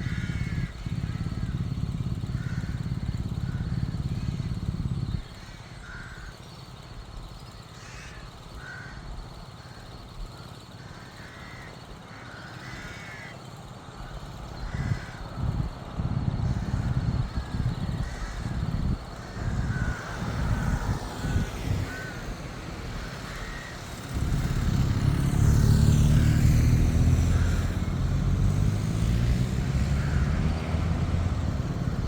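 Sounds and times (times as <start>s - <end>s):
birds calling: 0.0s - 32.0s.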